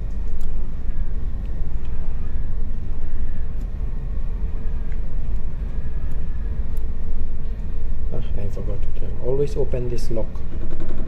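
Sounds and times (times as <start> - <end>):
background machinery rumble: 0.0 - 11.0
faint constant hum: 0.0 - 11.0.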